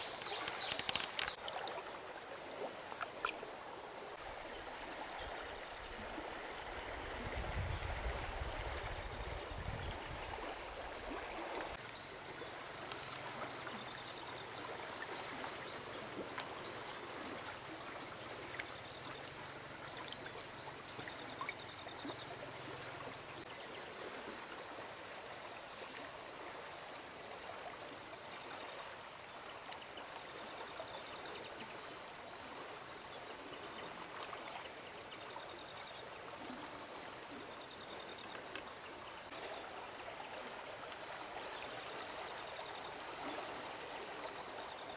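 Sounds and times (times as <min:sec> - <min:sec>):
river water flowing over pebbles: 0:00.0 - 0:44.9.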